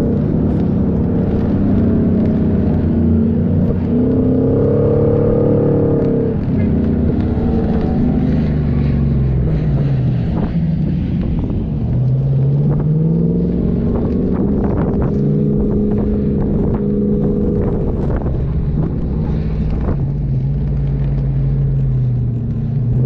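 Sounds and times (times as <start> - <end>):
engine driving under load: 0.0 - 23.0.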